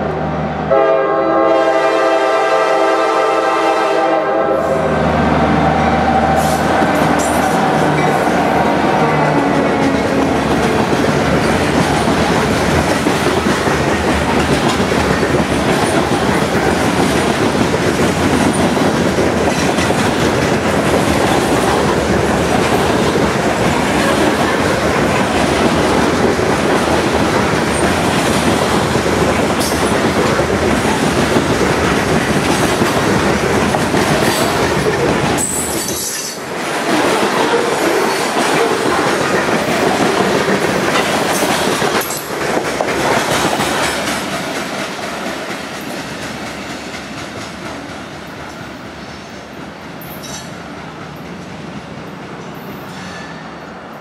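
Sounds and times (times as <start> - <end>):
train wheels clacking over rail joints: 6.2 - 53.4.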